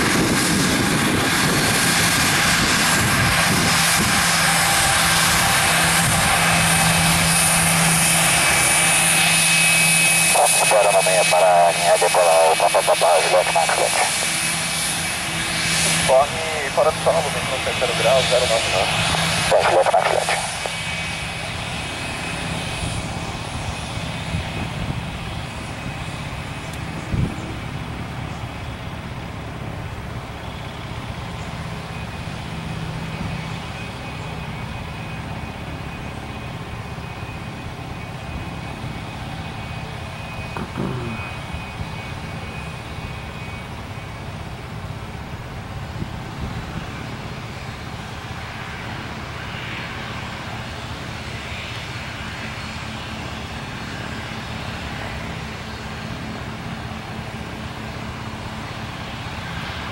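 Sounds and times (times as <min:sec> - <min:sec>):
jet engines taxiing: 0:00.0 - 0:59.9.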